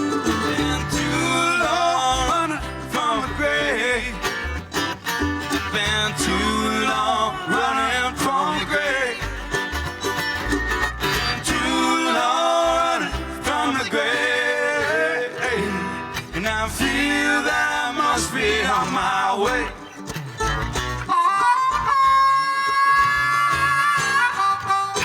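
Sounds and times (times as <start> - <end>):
acoustic guitar: 0.0 - 25.0
bluegrass band playing: 0.0 - 25.0.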